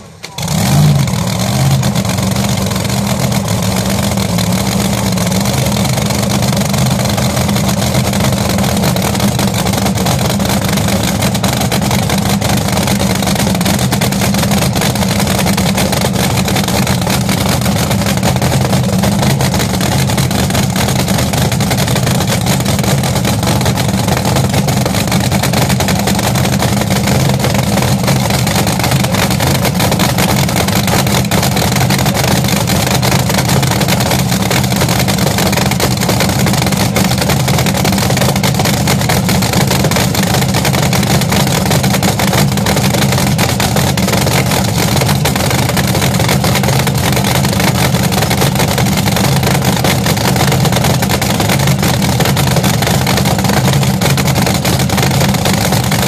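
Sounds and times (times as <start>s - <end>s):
drag car engine idling: 0.0s - 56.0s.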